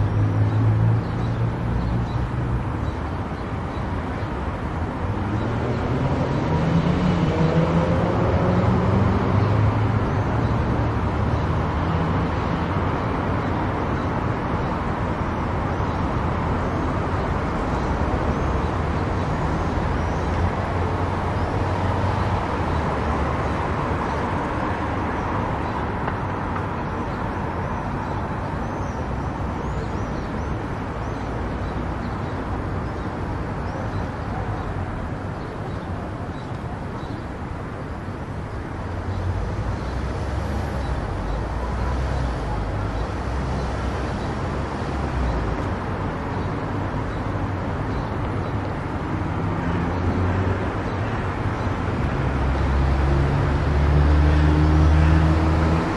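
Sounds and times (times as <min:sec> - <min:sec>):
tyre and road noise: 0:00.0 - 0:55.9.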